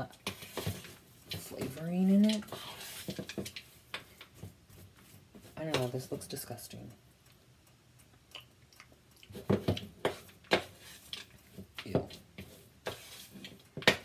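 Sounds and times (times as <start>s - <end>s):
dough squishing in bowl: 0.0s - 6.5s, 8.0s - 14.0s.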